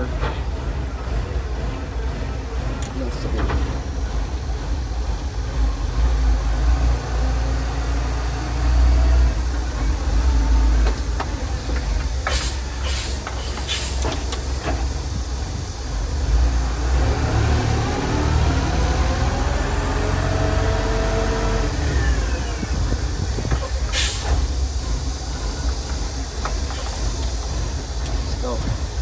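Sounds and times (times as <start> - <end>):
concrete mixer engine rumbling: 0.0 - 29.0.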